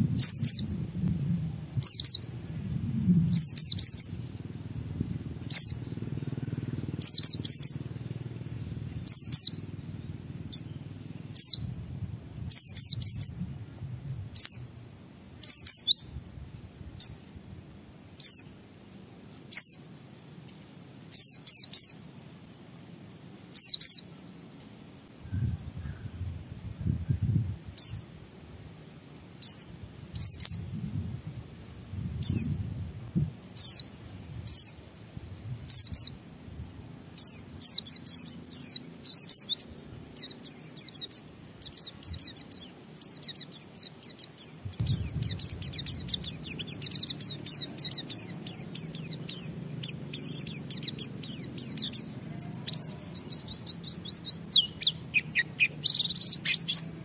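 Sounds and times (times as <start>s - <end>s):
bird chirping song: 0.0s - 22.2s, 23.4s - 57.0s
faint low rumble: 0.0s - 57.0s.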